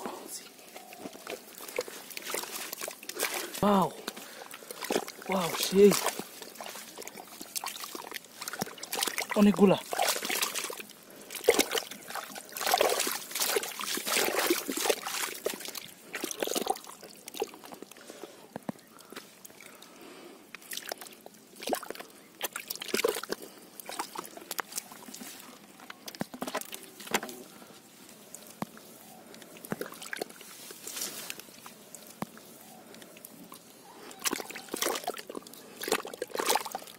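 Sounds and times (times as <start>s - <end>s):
hands sloshing in mud: 0.5s - 18.0s, 20.6s - 27.6s, 28.2s - 36.9s.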